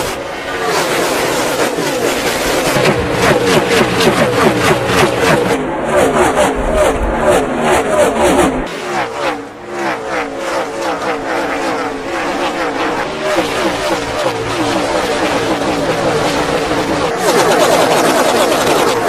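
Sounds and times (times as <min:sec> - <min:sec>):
racing car engines at speed: 0:00.0 - 0:19.0.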